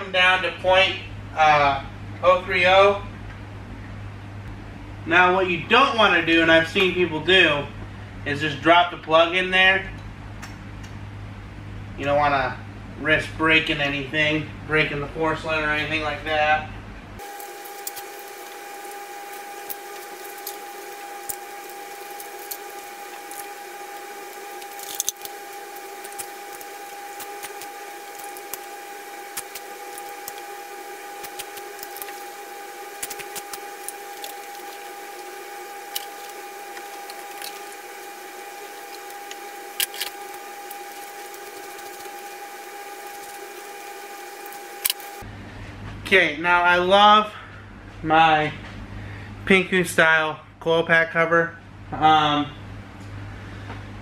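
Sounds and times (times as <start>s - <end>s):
steady high-pitched hum: 0.0s - 54.0s.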